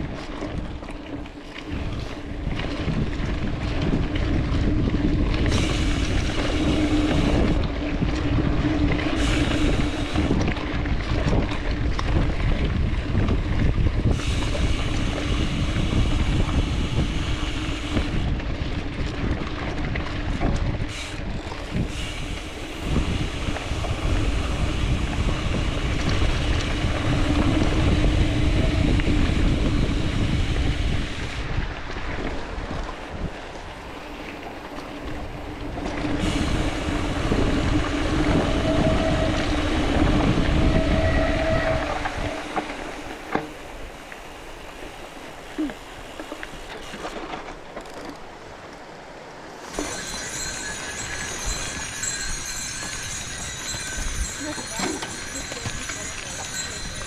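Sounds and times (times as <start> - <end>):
wind buffeting microphone: 0.0 - 46.9, 49.6 - 57.0
bike tyres rolling on rough trail: 0.0 - 57.0.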